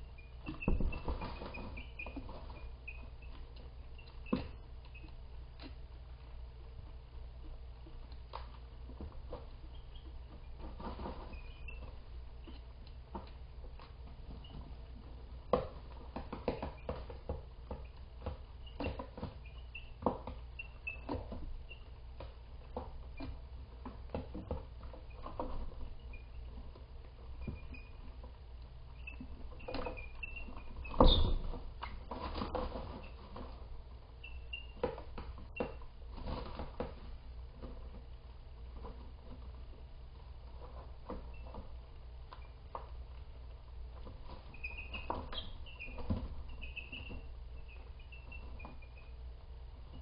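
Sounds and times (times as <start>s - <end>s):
young chickens cheeping: 0.0s - 36.8s, 44.0s - 50.0s
scratching and pecking clicks: 0.0s - 50.0s.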